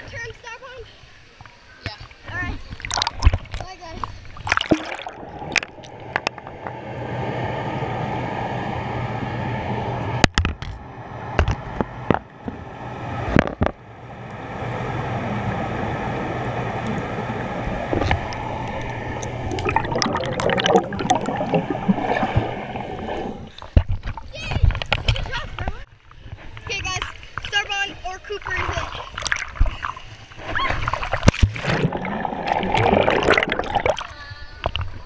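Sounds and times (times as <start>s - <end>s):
muffled underwater rush: 0.0s - 35.0s
underwater bubbling: 1.4s - 26.6s, 28.2s - 35.0s.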